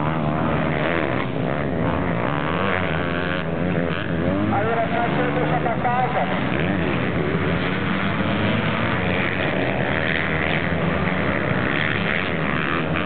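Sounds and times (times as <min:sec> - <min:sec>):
pit bike engines racing: 0:00.0 - 0:13.0.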